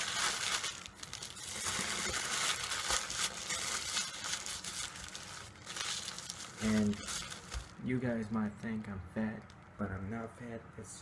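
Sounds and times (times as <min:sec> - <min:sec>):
paper crinkling and rustling: 0:00.0 - 0:08.8.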